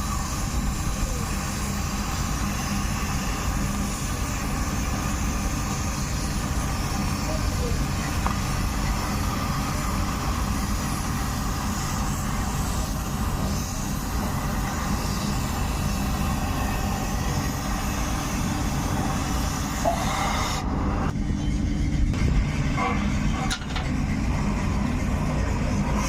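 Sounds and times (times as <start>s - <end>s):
hiss: 0.0s - 21.2s, 22.3s - 26.0s
metalworking machinery rumble: 0.0s - 26.0s.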